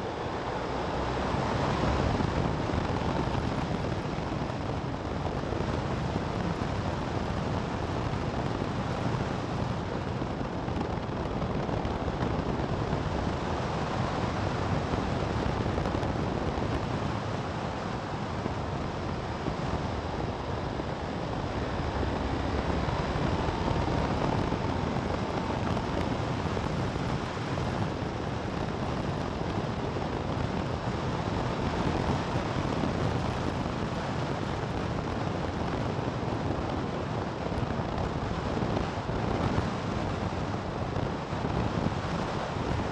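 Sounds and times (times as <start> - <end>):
motorcycle riding: 0.0 - 42.9
wind rush on microphone: 0.0 - 42.9.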